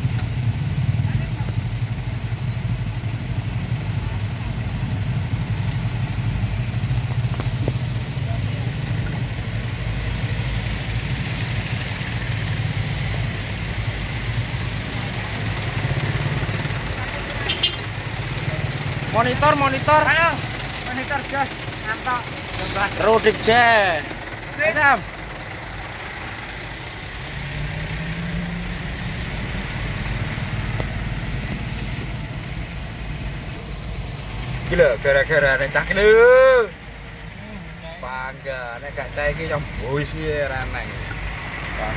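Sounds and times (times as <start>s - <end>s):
road noise: 0.0s - 41.9s
vehicle engine running: 0.0s - 41.9s.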